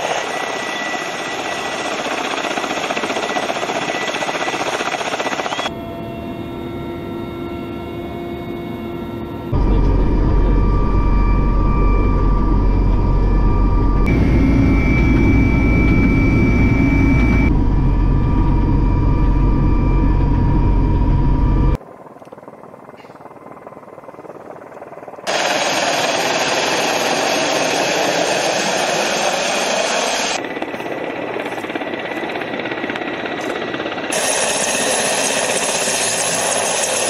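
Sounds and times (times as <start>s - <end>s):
helicopter rotor rumble: 0.0s - 37.0s
helicopter rushing noise in flight: 0.0s - 37.0s
turbine whine: 0.0s - 37.0s.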